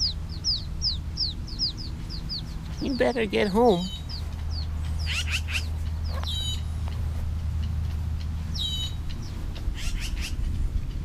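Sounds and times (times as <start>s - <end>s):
bird chicks peeping: 0.0s - 11.0s
low steady rumble: 0.0s - 11.0s.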